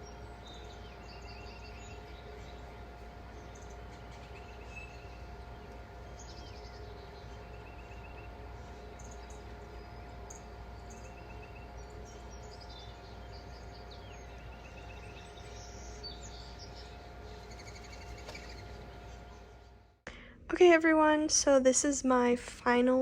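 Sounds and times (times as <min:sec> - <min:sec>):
bird chirps and trills: 0:00.0 - 0:19.6
steady low hum: 0:00.0 - 0:23.0.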